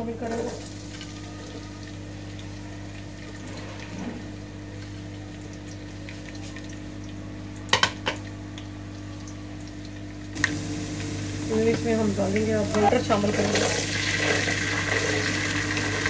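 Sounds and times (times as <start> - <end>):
onions sizzling in a pan: 0.0 - 16.0.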